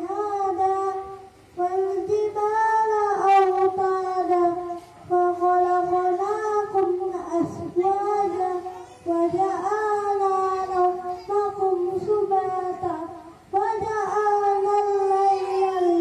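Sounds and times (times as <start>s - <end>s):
boy singing into microphone: 0.0s - 16.0s.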